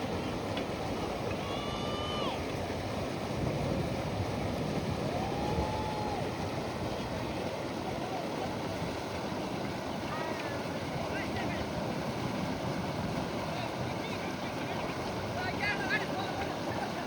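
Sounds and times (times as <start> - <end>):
river water rushing: 0.0 - 17.0
wind: 0.0 - 17.0.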